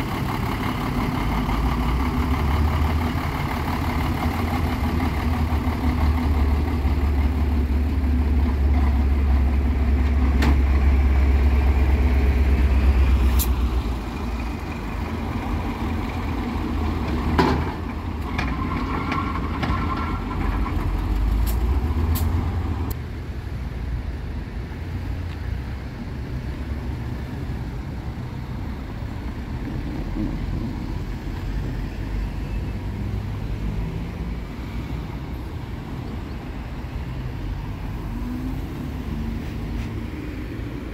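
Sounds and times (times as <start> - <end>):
heavy low engine rumble: 0.0 - 40.9
traffic noise: 0.0 - 40.9.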